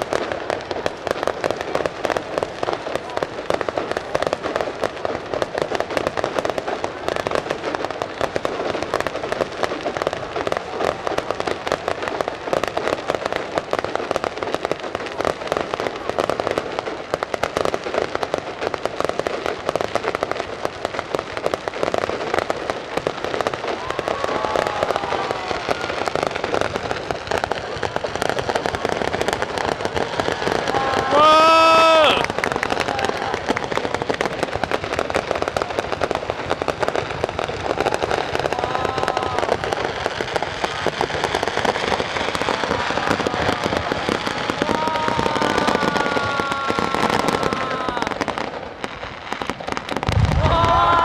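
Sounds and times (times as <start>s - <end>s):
fireworks crackling: 0.0s - 51.0s.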